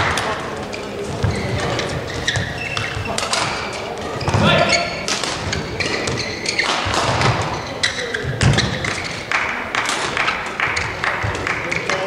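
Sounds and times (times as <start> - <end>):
rackets hitting shuttlecock: 0.0 - 12.0.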